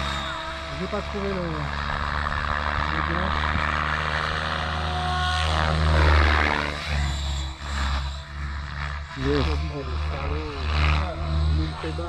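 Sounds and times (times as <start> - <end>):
model helicopter rotor droning: 0.0 - 12.0.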